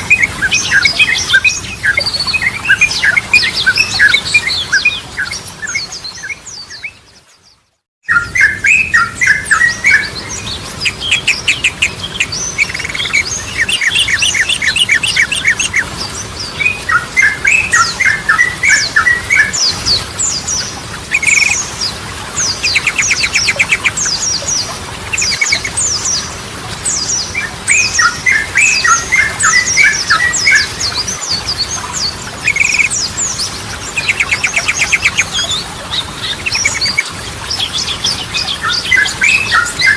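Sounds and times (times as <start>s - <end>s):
bird singing with chattering trills: 0.0s - 7.0s, 8.0s - 39.9s.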